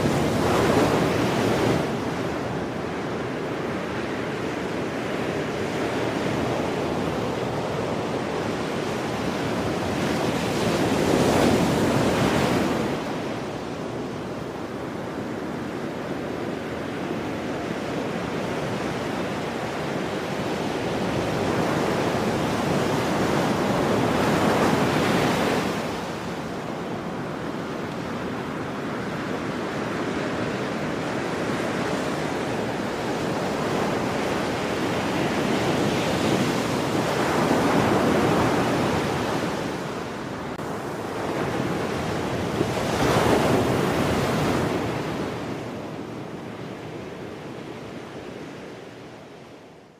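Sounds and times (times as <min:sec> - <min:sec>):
ocean waves breaking: 0:00.0 - 0:49.1.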